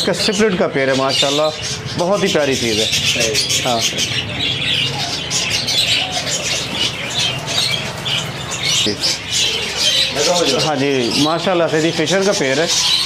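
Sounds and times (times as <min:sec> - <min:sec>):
parrots chirping and chattering: 0:00.0 - 0:13.0.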